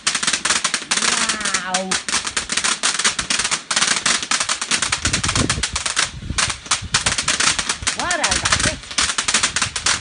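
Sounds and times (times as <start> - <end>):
crackling firework: 0.0 - 10.0.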